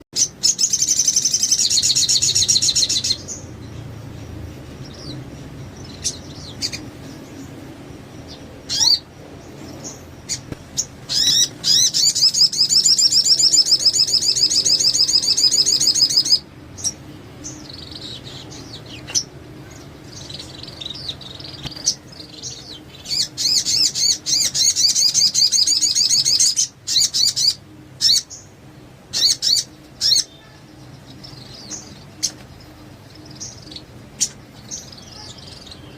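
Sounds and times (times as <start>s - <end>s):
bird chirps: 0.2s - 35.9s
bird singing high rapid trills: 0.2s - 35.9s.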